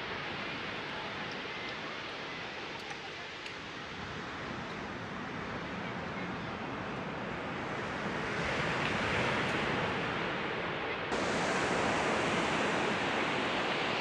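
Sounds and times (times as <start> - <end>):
ocean surf: 0.0 - 14.0
wind: 0.0 - 14.0.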